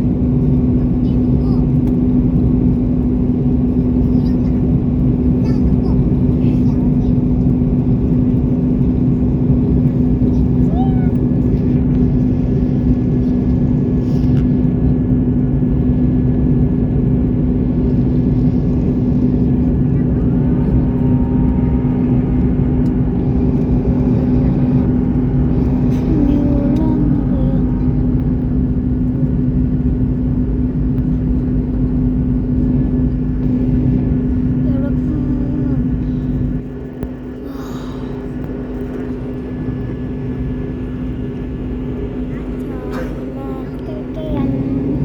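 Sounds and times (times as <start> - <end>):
airliner cabin engine rumble: 0.0 - 45.0
steady low hum: 0.0 - 45.0.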